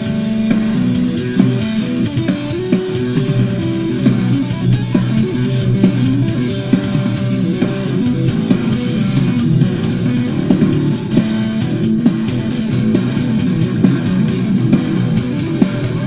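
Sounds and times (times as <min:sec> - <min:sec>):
distorted tapped string instrument: 0:00.0 - 0:16.0
low bass notes: 0:00.0 - 0:16.0.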